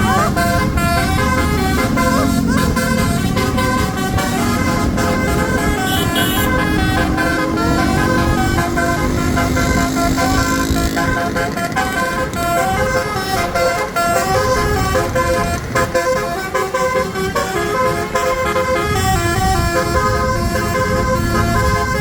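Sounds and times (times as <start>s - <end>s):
bus engine and road noise: 0.0s - 22.0s
musical air horn tune: 0.0s - 22.0s.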